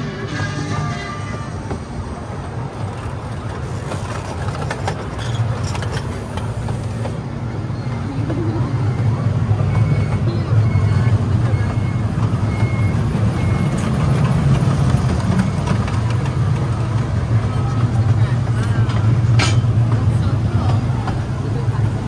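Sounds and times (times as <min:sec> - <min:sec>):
ride train rumbling on track: 0:00.0 - 0:22.0.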